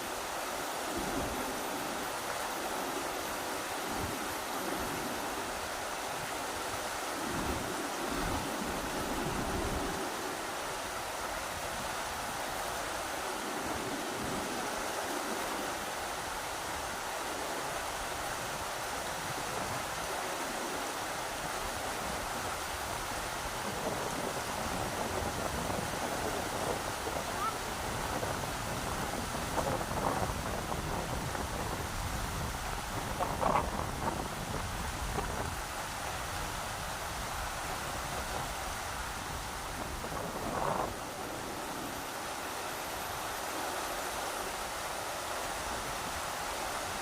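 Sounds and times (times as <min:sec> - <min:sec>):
wind buffeting microphone: 0:00.0 - 0:43.3
rushing river water: 0:00.0 - 0:47.0.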